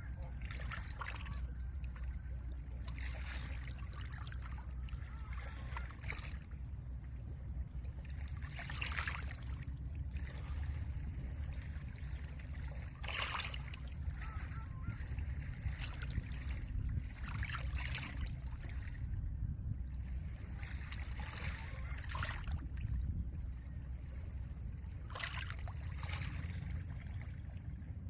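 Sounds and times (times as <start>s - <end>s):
low wind rumble: 0.0s - 28.0s.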